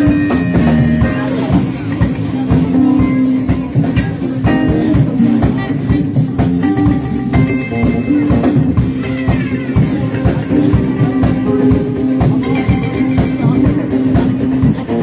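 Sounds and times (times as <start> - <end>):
bass guitar: 0.0 - 15.0
drum kit steady beat: 0.0 - 15.0
electric guitar: 0.0 - 15.0.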